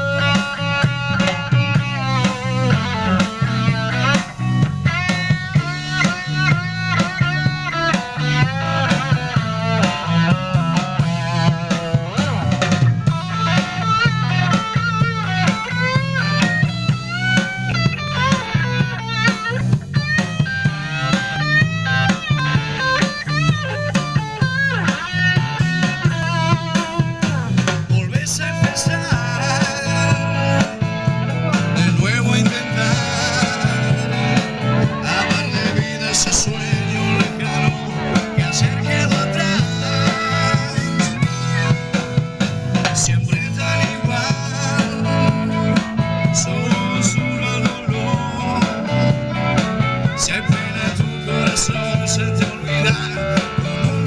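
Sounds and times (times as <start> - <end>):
band music with steady beat: 0.0 - 54.0
rock song with guitar: 0.0 - 54.0.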